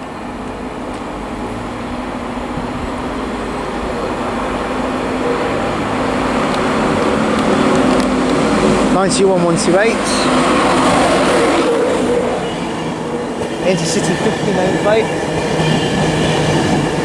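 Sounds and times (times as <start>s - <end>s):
train rail rumble: 0.0s - 17.0s.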